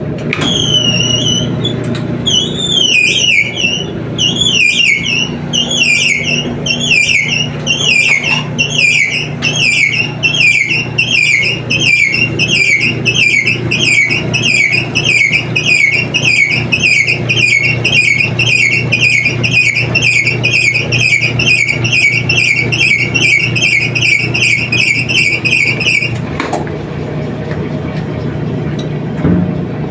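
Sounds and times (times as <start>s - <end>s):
motor and drum hum: 0.0s - 29.9s
washing machine belt squealing: 0.0s - 29.9s.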